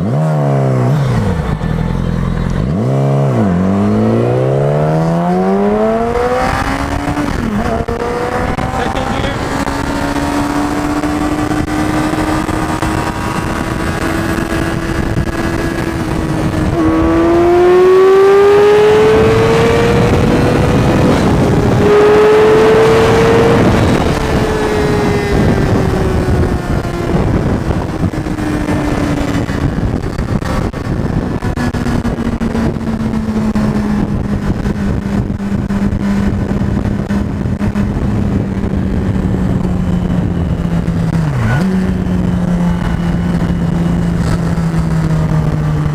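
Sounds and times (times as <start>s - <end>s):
motorcycle engine revving: 0.0s - 45.9s
wind rush on microphone: 0.0s - 45.9s.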